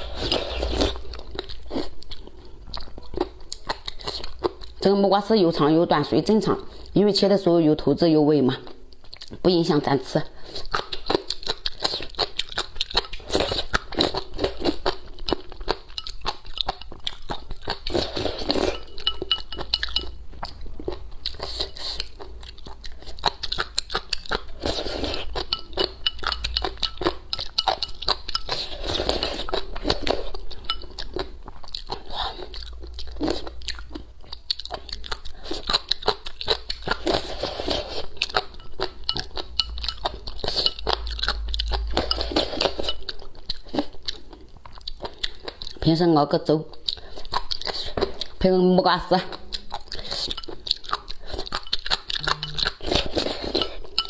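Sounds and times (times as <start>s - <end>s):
person chewing crunchy food: 0.0s - 4.9s, 8.6s - 9.5s, 10.4s - 45.9s, 46.7s - 48.4s, 49.2s - 54.0s.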